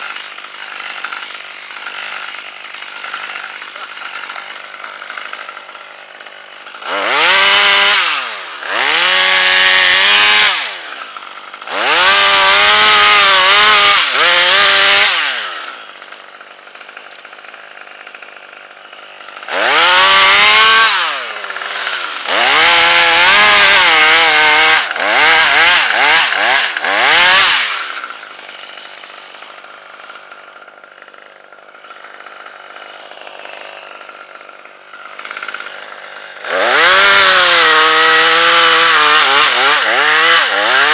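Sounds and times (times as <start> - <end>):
chainsaw cutting wood: 0.0 - 40.9
chainsaw revving and idling: 0.0 - 40.9.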